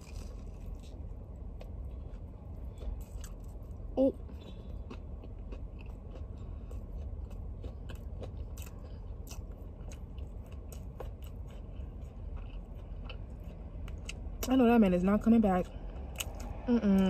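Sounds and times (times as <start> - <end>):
person chewing crunchy food: 0.0 - 14.5, 15.6 - 16.7.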